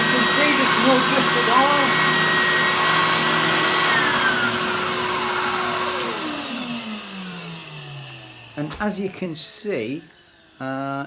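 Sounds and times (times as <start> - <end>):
motor winding down whine: 0.0 - 11.0
spindle sander running: 0.0 - 11.0.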